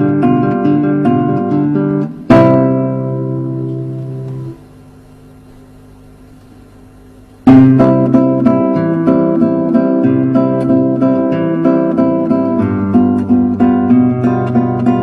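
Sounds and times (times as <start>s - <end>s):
classical guitar fingerstyle: 0.0s - 4.6s, 7.4s - 15.0s.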